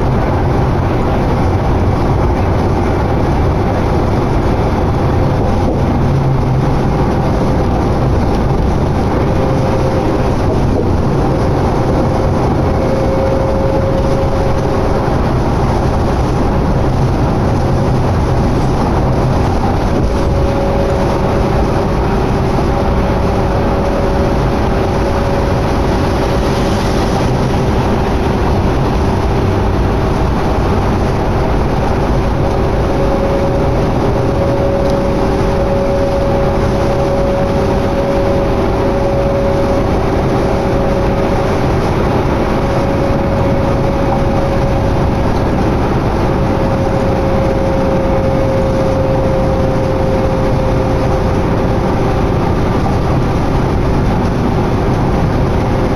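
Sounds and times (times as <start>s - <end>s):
bus running noise from inside: 0.0s - 55.9s
faint humming tones: 0.0s - 55.9s.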